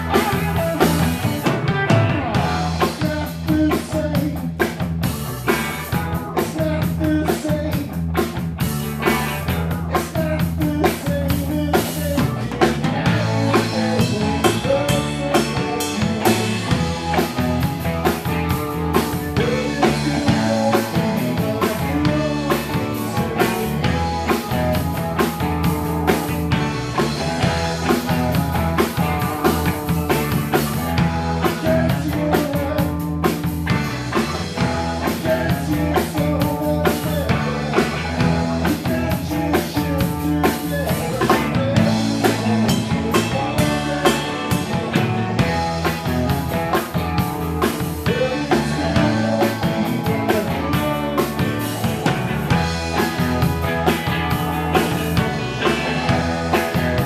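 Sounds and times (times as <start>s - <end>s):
drum kit beat: 0.0s - 57.0s
rock band playing live: 0.0s - 57.0s.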